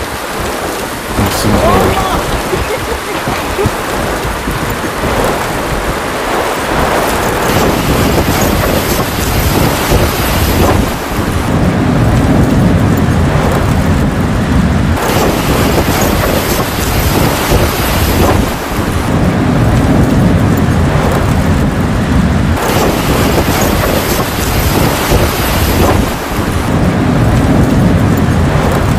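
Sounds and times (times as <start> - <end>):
heavy rain: 0.0 - 28.9
low thunder rumble: 0.0 - 28.9
wind: 0.0 - 28.9.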